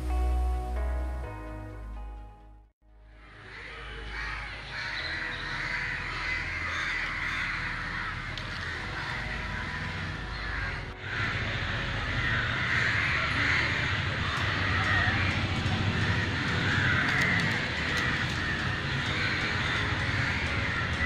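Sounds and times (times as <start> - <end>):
crows cawing: 3.1 - 21.0.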